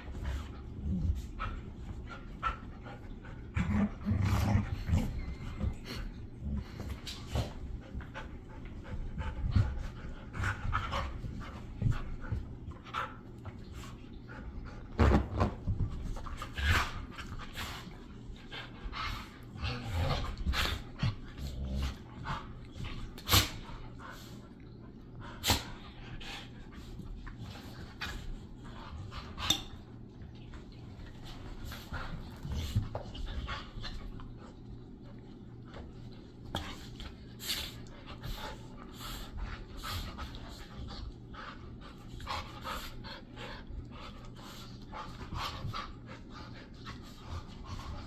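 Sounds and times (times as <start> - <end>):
dogs panting: 0.0 - 14.9, 15.7 - 48.0.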